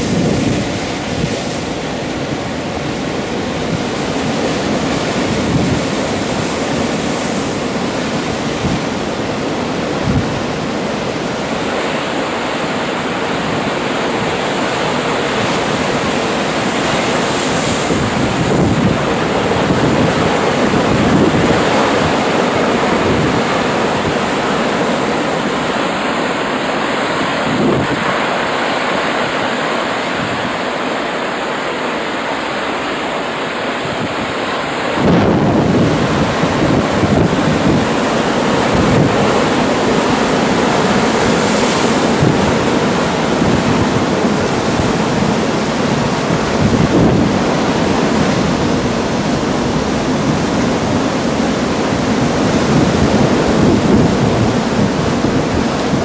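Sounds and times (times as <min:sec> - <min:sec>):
heavy waves breaking on rocks: 0:00.0 - 0:56.0
wind buffeting microphone: 0:00.0 - 0:56.0.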